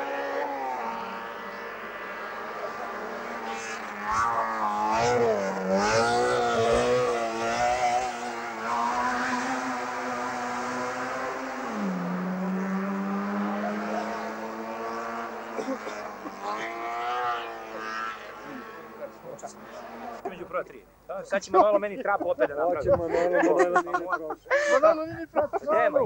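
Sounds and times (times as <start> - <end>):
distant racing car engines revving: 0.0 - 23.8.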